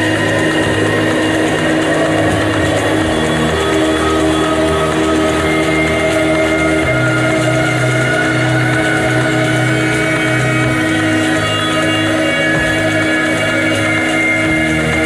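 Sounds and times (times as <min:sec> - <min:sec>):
dense noisy hum: 0:00.0 - 0:15.0
layered held tones: 0:00.0 - 0:15.0.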